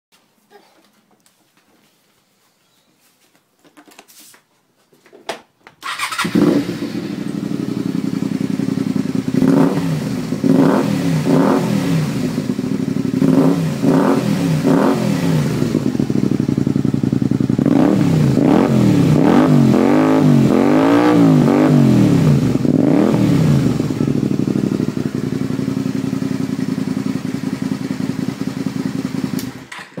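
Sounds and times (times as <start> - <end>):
motorcycle engine idling and revving: 5.8 - 30.0.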